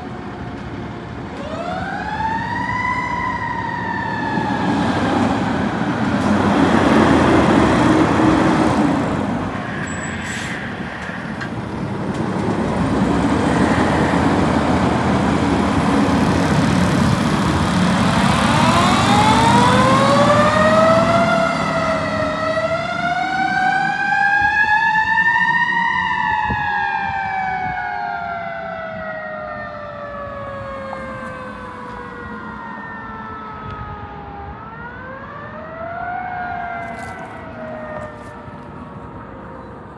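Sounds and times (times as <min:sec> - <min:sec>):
fire truck engine and tyres: 0:00.0 - 0:39.9.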